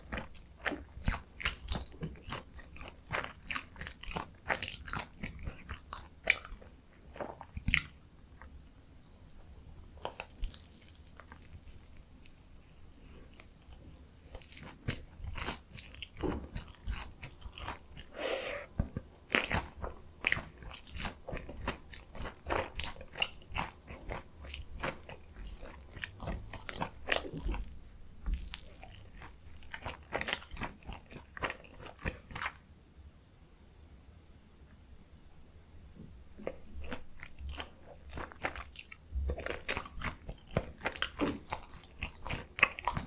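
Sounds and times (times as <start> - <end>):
crunching fried food: 0.0 - 8.5, 9.8 - 12.6, 13.2 - 32.6, 36.4 - 43.0.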